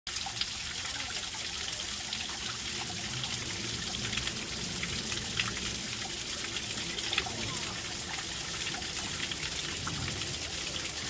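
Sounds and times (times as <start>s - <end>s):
water trickling into pond: 0.1s - 11.0s.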